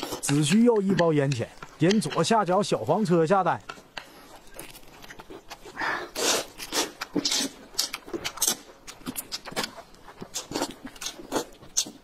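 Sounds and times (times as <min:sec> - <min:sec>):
noodles being slurped: 0:00.0 - 0:01.9, 0:04.1 - 0:12.0.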